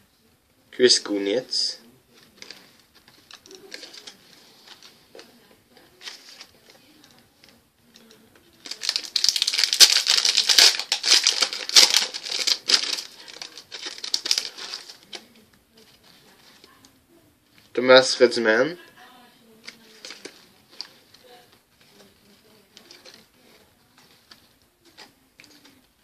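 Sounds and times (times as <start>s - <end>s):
plastic wrapper crinkling: 2.1s - 16.9s, 19.5s - 26.0s.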